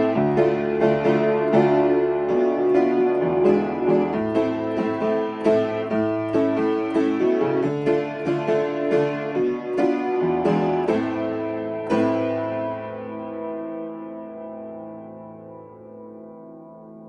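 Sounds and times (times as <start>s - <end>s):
upright piano chords: 0.0s - 17.0s.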